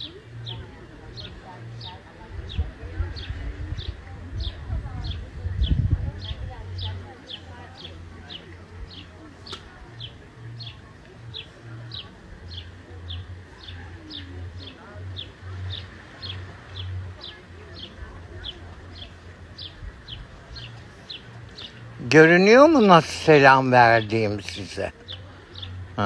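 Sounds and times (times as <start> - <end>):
faint low rumble: 0.0 - 22.0
bird chirping: 0.0 - 25.8.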